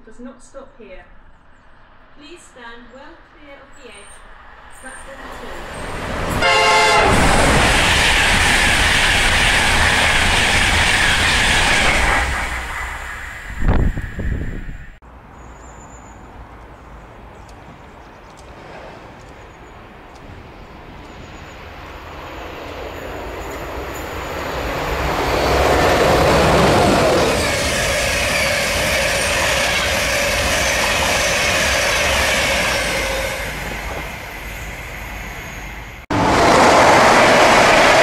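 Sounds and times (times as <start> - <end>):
train passing at speed: 1.2 - 38.0.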